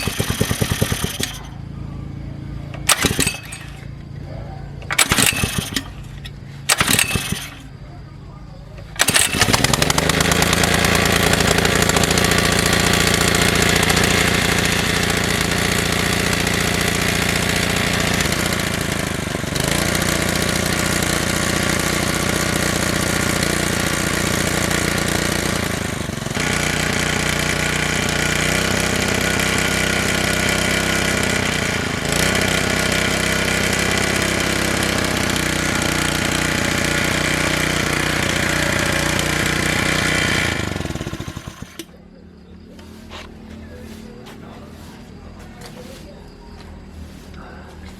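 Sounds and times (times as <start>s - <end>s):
small gasoline pump engine: 0.0s - 46.0s.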